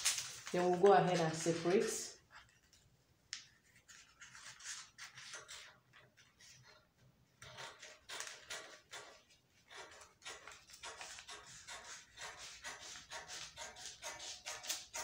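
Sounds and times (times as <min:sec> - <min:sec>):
scissors cutting paper: 0:00.0 - 0:02.8, 0:03.5 - 0:06.8, 0:07.4 - 0:15.0.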